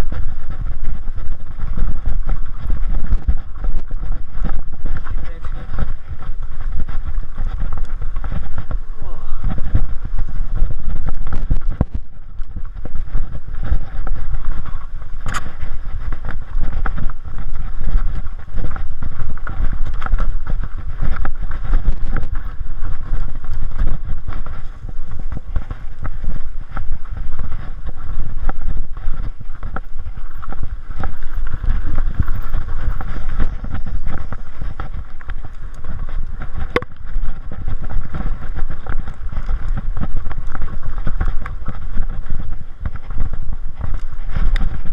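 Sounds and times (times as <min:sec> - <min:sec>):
bike chain and frame clatter: 0:00.0 - 0:44.9
wind buffeting microphone: 0:00.0 - 0:44.9.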